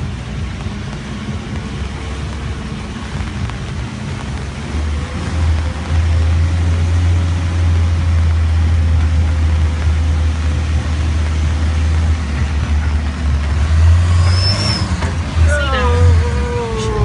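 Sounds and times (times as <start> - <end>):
jeep engine and road rumble: 0.0 - 17.0.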